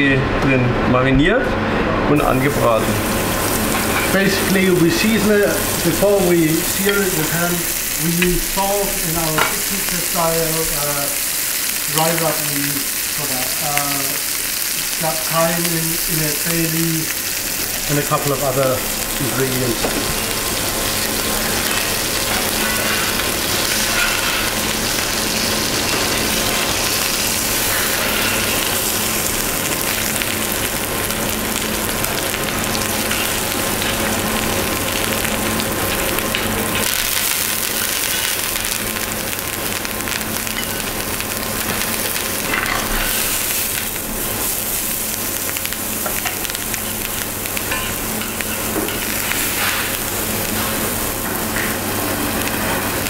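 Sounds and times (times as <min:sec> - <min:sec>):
meat sizzling in a frying pan: 0:02.4 - 0:53.0.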